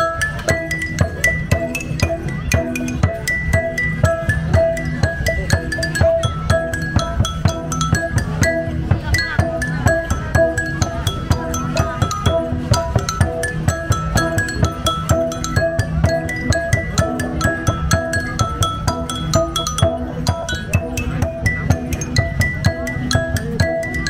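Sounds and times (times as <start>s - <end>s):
steady low beat: 0.0s - 24.0s
stone lithophone melody: 0.0s - 24.0s.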